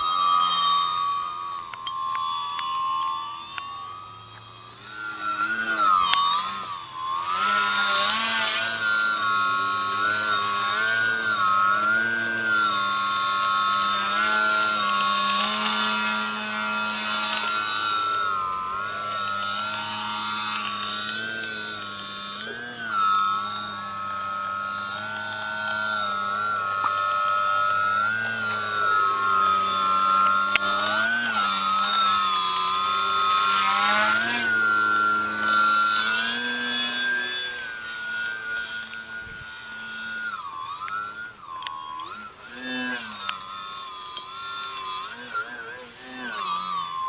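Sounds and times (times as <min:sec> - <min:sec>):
model plane electric motor whine: 0:00.0 - 0:47.0.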